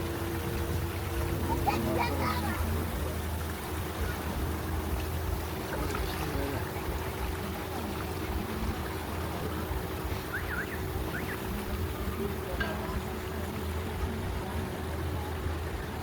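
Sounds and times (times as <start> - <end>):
boat engine humming: 0.0 - 16.0
rushing water: 0.0 - 16.0.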